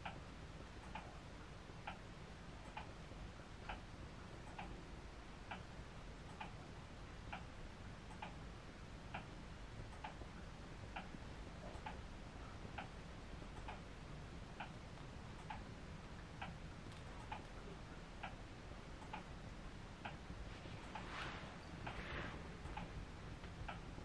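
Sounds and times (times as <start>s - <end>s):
clock ticking: 0.0s - 21.1s, 22.6s - 24.0s
low room hum: 0.0s - 24.0s.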